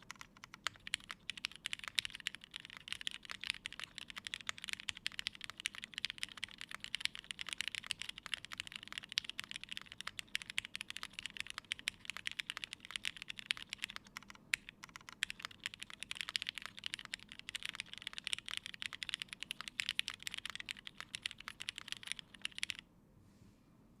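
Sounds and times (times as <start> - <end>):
mechanical keyboard typing: 0.0 - 22.8.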